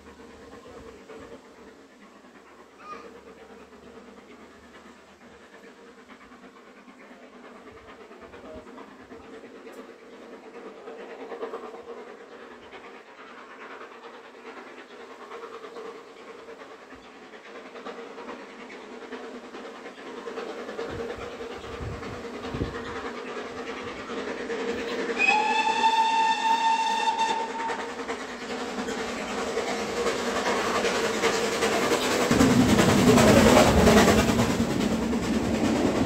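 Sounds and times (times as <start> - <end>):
steam locomotive chuffing: 0.0 - 36.0.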